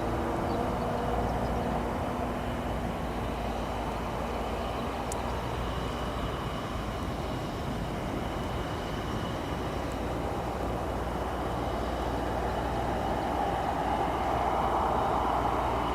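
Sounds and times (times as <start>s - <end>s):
aircraft engine rush: 0.0s - 15.9s.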